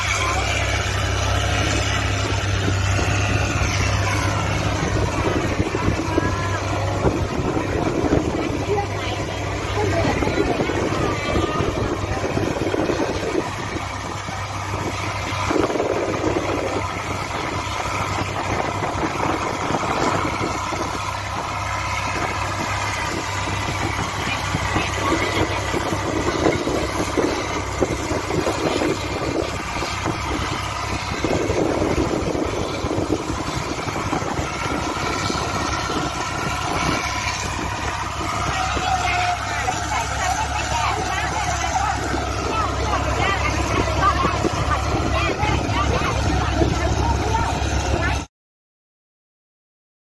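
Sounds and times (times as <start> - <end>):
boat engine running: 0.0 - 48.3
wind and water rushing: 0.0 - 48.3.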